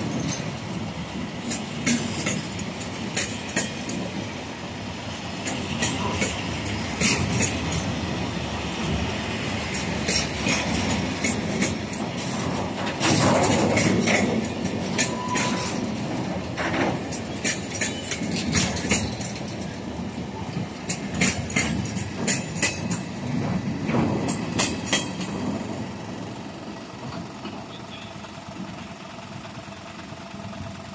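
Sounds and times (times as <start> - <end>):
freight train rumbling past: 0.0 - 30.9
wheels clacking over rail joints: 0.0 - 30.9.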